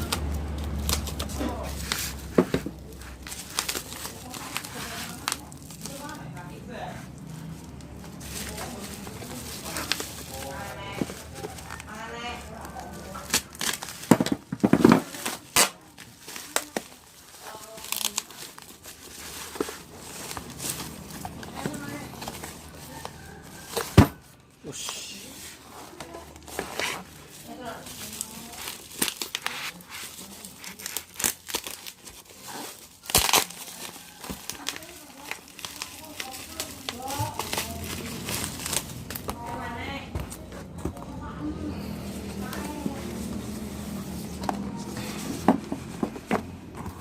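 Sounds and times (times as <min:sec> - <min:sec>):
packaging crinkling and rustling: 0:00.0 - 0:24.6, 0:25.3 - 0:47.0.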